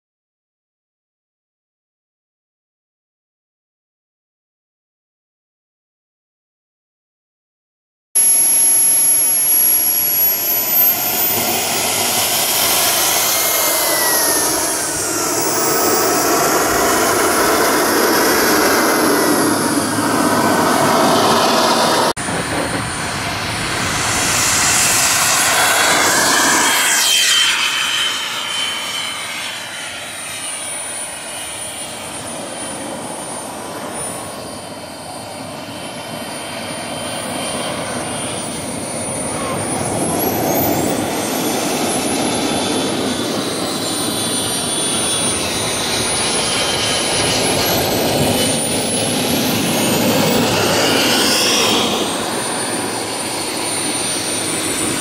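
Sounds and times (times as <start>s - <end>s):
jet passing by: 8.2s - 55.0s
jet turbine whine: 8.2s - 55.0s.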